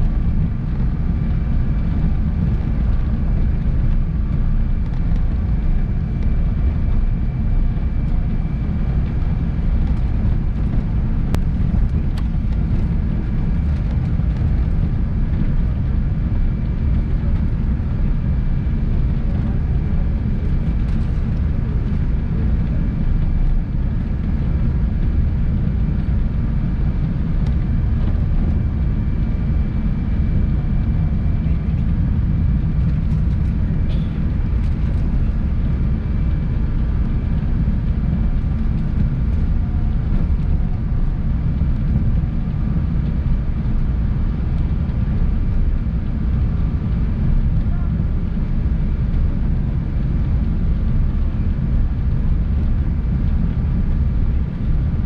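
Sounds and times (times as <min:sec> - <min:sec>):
jet engines rumbling: 0:00.0 - 0:50.4.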